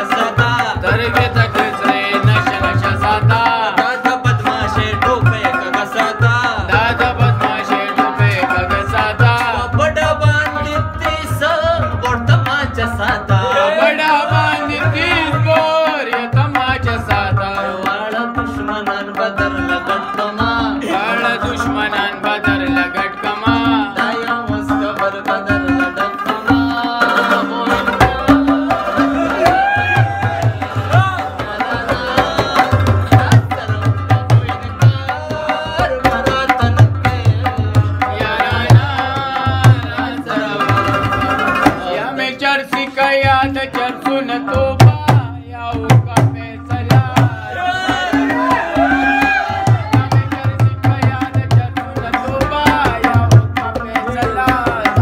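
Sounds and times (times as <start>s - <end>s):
plucked string melody: 0.0s - 47.2s
tabla fast rhythm: 0.0s - 55.0s.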